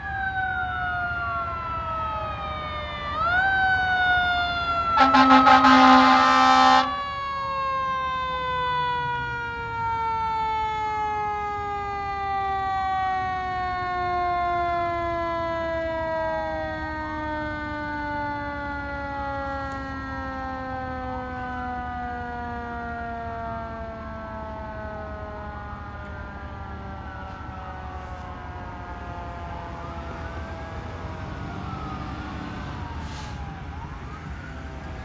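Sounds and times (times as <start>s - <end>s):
electronic wail siren: 0.0s - 35.0s
mechanical siren winding down: 0.0s - 35.0s.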